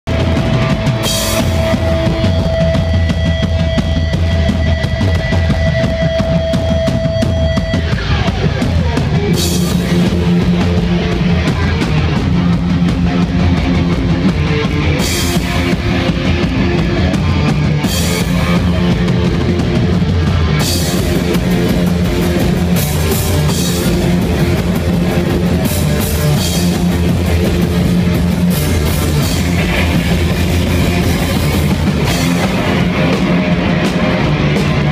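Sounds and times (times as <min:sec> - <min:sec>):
distorted electric guitars: 0:00.0 - 0:34.9
drum kit: 0:00.0 - 0:34.9.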